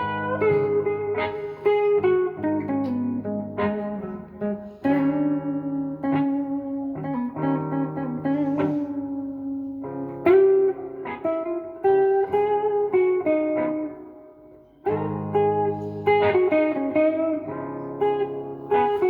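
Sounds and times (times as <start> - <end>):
electric guitar playing slow blues: 0.0 - 19.0.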